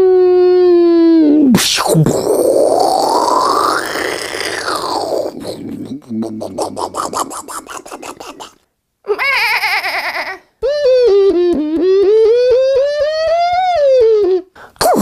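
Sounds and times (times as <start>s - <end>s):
man imitating warbling tone: 0.9s - 15.0s.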